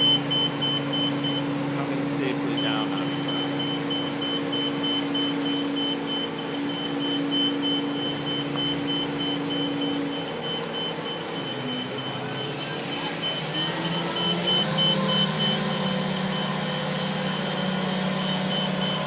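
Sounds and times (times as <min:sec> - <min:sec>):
diesel engine running: 0:00.0 - 0:19.0
high-pitched warning alarm beeps: 0:00.0 - 0:19.0.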